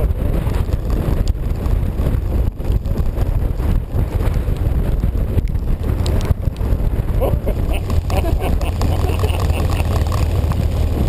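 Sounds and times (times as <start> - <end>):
vehicle running: 0.0 - 11.0
wind buffeting microphone: 0.0 - 11.0.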